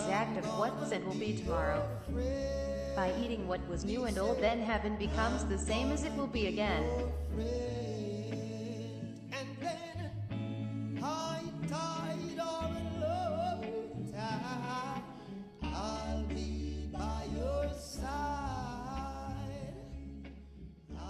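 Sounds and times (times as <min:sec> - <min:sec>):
steady bass notes: 0:00.0 - 0:15.0, 0:15.6 - 0:21.0
singing voice with wavering notes: 0:00.0 - 0:21.0.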